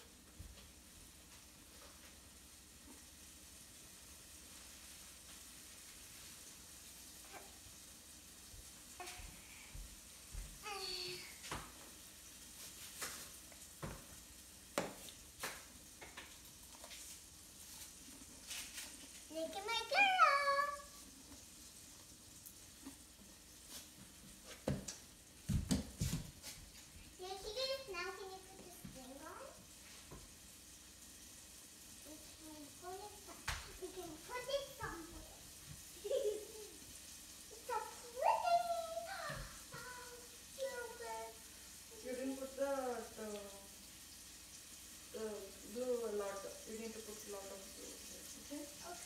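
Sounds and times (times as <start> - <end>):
steady faint hiss: 0.0 - 49.0.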